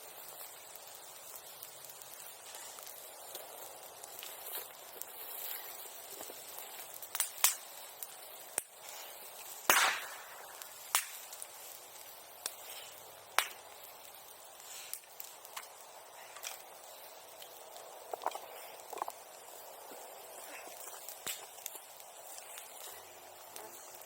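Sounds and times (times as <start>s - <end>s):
bonfire pops and cracks: 0.0s - 24.0s
faint steady hiss: 0.0s - 24.0s.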